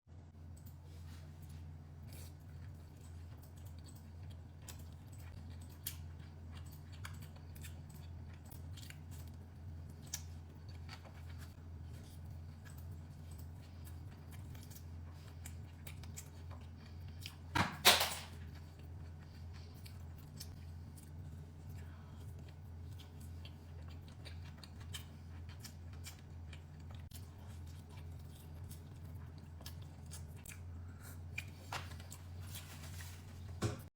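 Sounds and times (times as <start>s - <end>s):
steady low hum: 0.1s - 33.9s.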